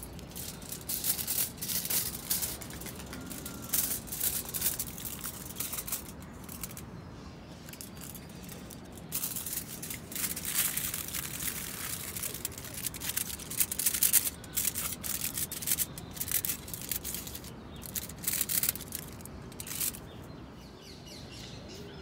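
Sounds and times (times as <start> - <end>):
aluminium foil crinkling: 0.0 - 6.8, 7.6 - 20.2.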